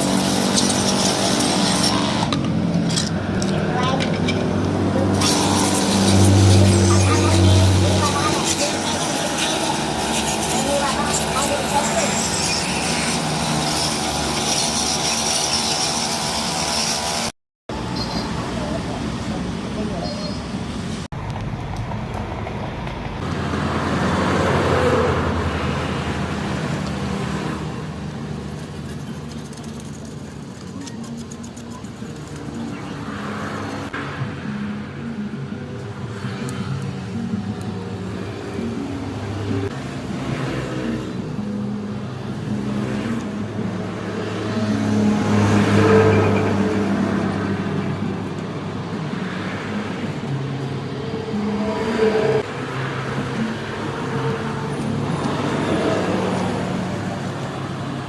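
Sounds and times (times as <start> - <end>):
vehicle engine passing: 0.0 - 15.0, 20.7 - 58.0
road traffic: 0.0 - 58.0.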